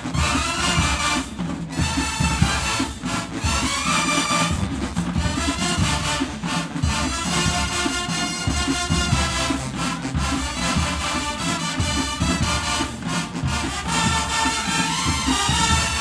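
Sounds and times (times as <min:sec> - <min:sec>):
brass horns holding chords: 0:00.0 - 0:16.0.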